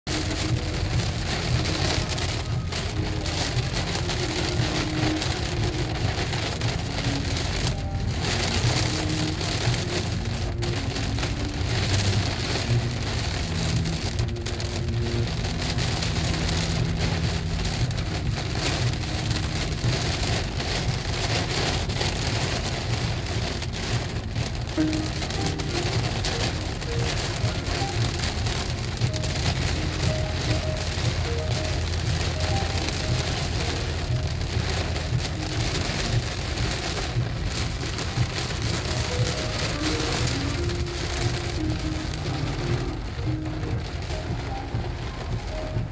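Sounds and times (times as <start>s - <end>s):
rain pattering on a car: 0.0s - 45.9s
low rumble: 0.1s - 45.9s.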